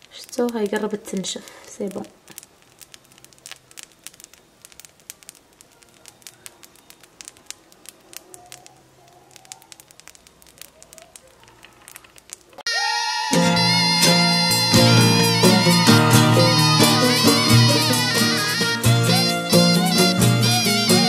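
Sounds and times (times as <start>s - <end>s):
batter crackling in pan: 0.0s - 21.0s.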